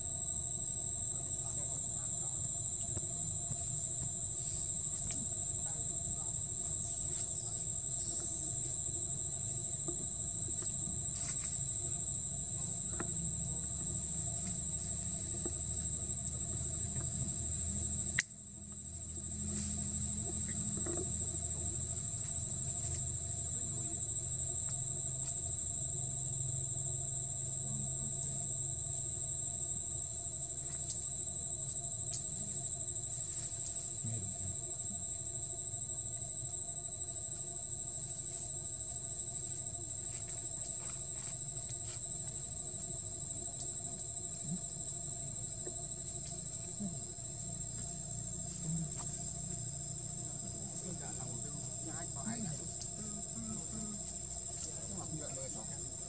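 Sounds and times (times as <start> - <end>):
insects droning in trees: 0.0 - 56.0.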